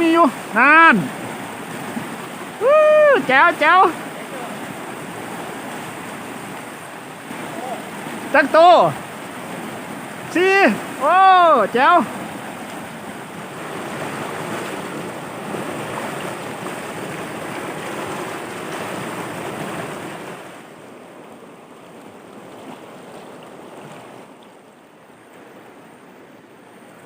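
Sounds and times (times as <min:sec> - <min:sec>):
water rushing over rocks: 0:00.0 - 0:27.0.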